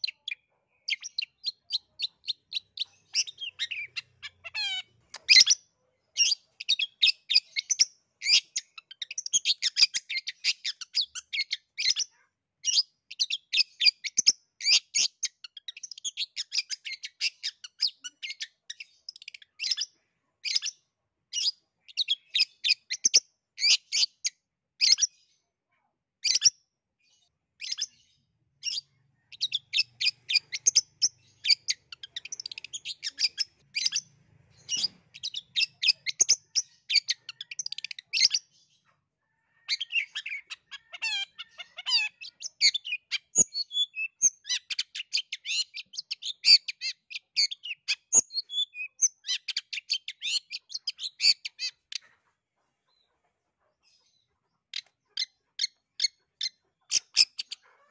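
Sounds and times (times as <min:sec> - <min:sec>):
bird singing fast chatter: 0:00.0 - 0:25.2, 0:26.2 - 0:38.8, 0:39.5 - 0:52.1, 0:53.9 - 0:57.7.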